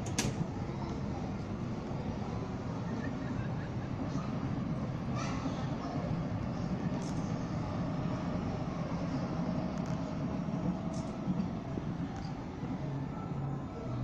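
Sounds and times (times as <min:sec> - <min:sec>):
city background noise: 0:00.0 - 0:14.0
train rumbling past: 0:00.0 - 0:14.0.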